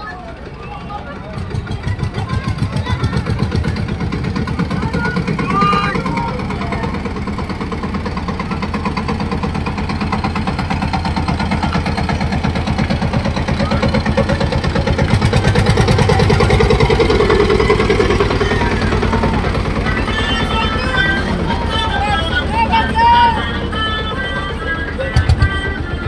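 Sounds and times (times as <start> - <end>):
tractor engine chugging: 0.0 - 26.0.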